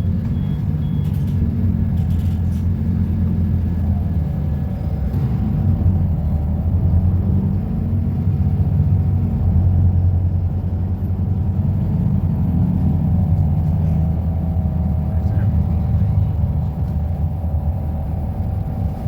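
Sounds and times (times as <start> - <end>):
diesel bus engine rumbling: 0.0 - 19.0.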